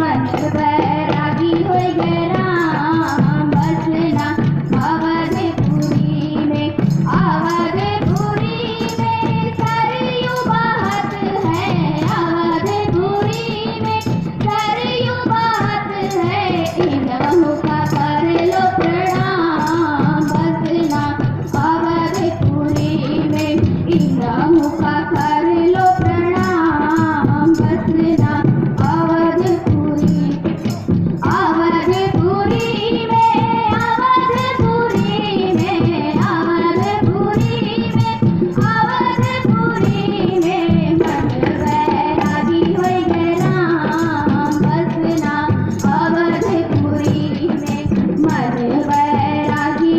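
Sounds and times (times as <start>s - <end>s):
steady percussion beat: 0.0s - 49.9s
voices singing a song: 0.0s - 49.9s.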